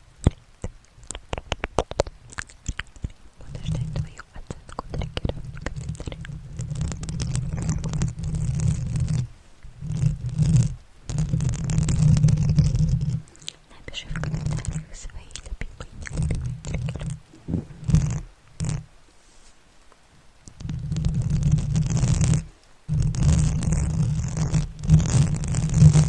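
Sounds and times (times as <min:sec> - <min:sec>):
crackling rub on microphone: 0:00.0 - 0:26.0.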